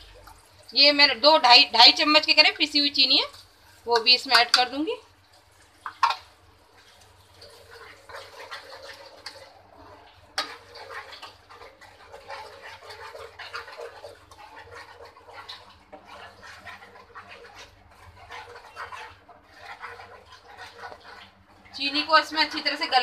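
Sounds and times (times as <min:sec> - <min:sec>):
bubbling crackle in frying pan: 0:00.0 - 0:23.0.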